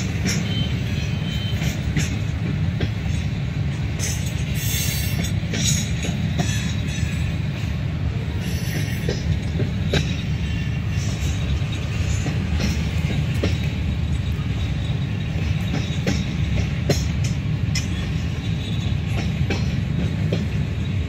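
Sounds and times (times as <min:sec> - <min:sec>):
freight train rumbling: 0:00.0 - 0:21.0
train wheels clicking on rails: 0:00.0 - 0:21.0.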